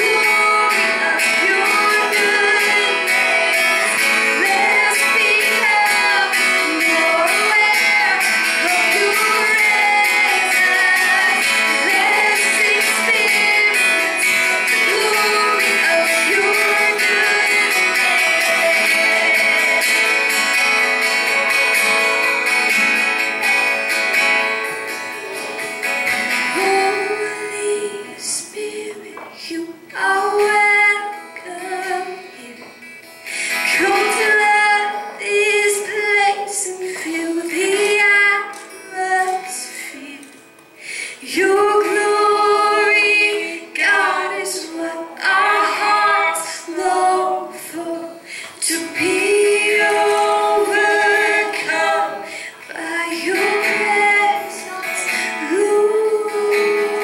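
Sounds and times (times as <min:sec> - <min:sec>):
woman singing into microphone: 0:00.0 - 0:20.5, 0:26.1 - 0:57.0
acoustic guitar strumming: 0:00.0 - 0:57.0.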